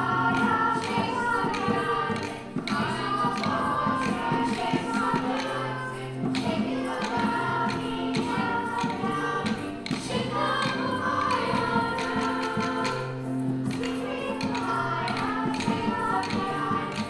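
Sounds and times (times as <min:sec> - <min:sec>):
children's choir singing: 0:00.0 - 0:17.0
instrumental accompaniment: 0:00.0 - 0:17.0.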